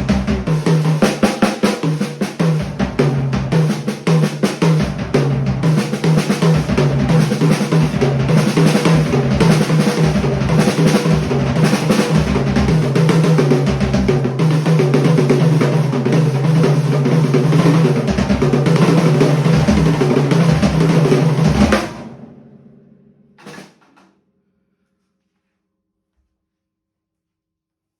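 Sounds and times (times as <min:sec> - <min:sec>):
drum kit playing rapid strokes: 0:00.0 - 0:22.5, 0:23.4 - 0:24.0.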